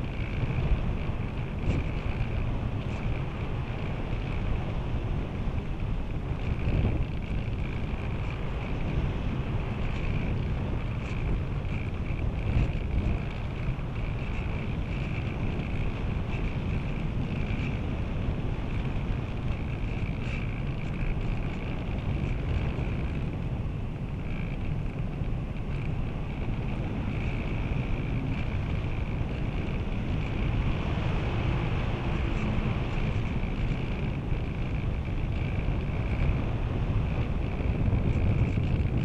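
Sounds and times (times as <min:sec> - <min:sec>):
wind rushing over glider: 0:00.0 - 0:39.0.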